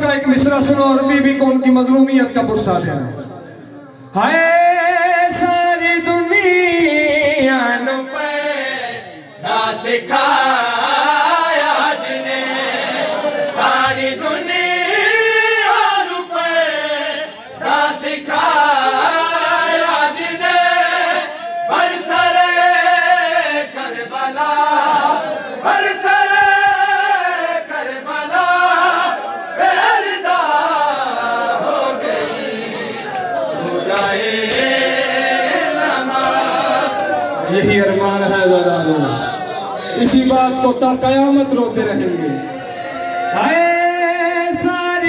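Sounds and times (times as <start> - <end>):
men chanting a lament: 2.2 - 45.0.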